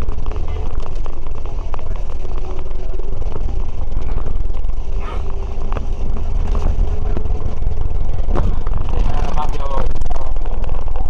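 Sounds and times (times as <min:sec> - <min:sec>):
bus engine and road rumble: 0:00.0 - 0:11.0
faint whine: 0:00.0 - 0:11.0.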